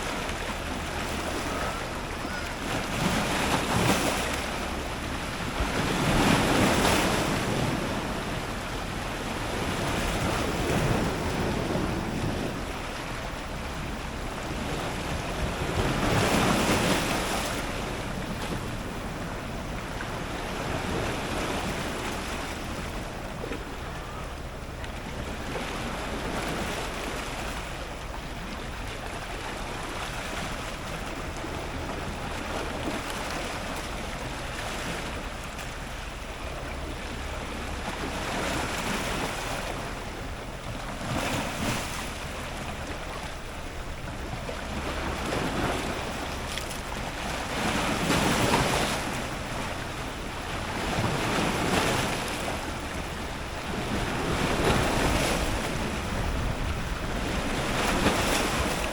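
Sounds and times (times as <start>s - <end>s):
ocean surf breaking on rocks: 0.0s - 58.9s
steady low rumble: 0.0s - 58.9s.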